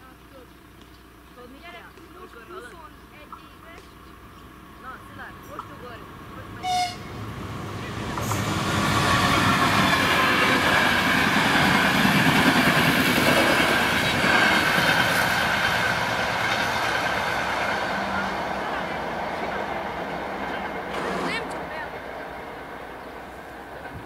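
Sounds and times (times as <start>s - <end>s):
train wheels rumbling and clattering: 3.9s - 24.0s.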